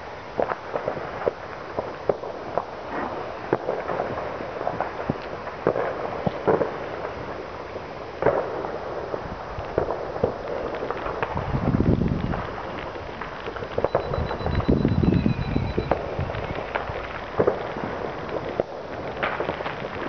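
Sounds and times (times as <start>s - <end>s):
crackle of far-off firecrackers: 0.0s - 20.0s
distant fireworks bangs: 0.0s - 20.0s.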